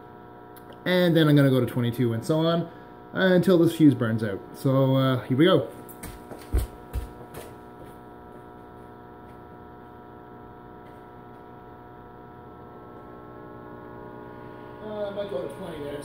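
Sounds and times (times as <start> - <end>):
inverter electrical hum: 0.0 - 16.0.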